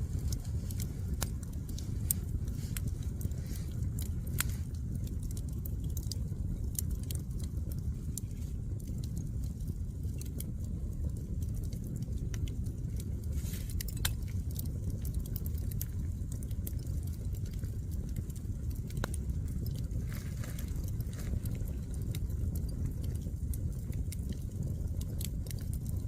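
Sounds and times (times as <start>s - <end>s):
low rumble: 0.0s - 26.0s
wood fire crackling: 0.0s - 26.0s.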